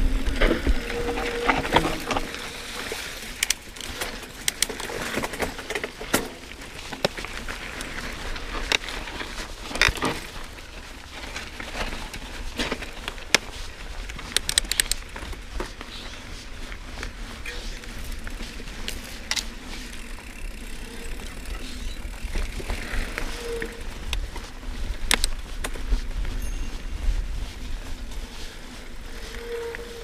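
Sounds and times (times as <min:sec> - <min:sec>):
bike clicks and rattles: 0:00.0 - 0:30.0
bike tyres on dirt: 0:00.0 - 0:30.0.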